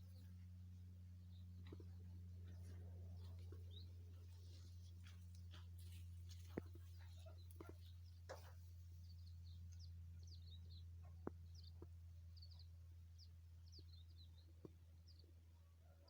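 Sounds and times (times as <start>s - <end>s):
steady low hum: 0.0s - 15.6s
faint birds chirping: 0.0s - 16.0s.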